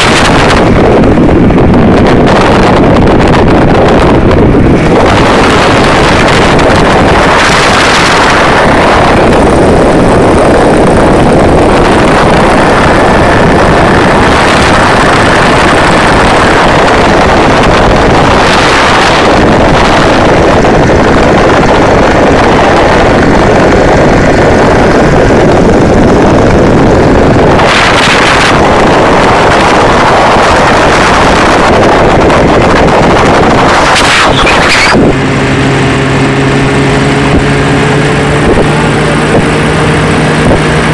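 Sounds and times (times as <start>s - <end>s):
aircraft engine drone: 0.0s - 40.9s
heavy wind on microphone: 0.0s - 40.9s.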